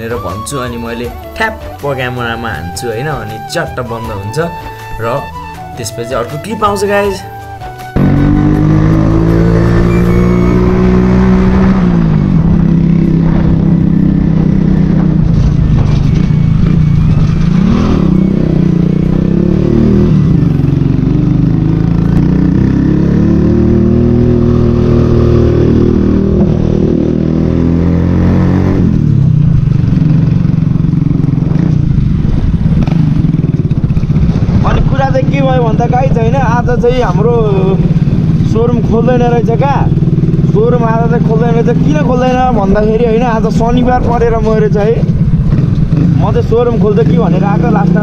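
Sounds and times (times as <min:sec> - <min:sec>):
motorcycle engine revving: 0:06.8 - 0:48.0.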